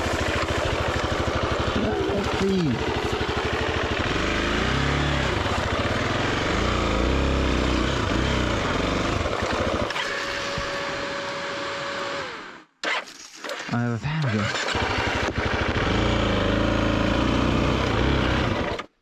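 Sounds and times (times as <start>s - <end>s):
dirt bike engine revving: 0.0s - 12.7s, 14.3s - 18.9s.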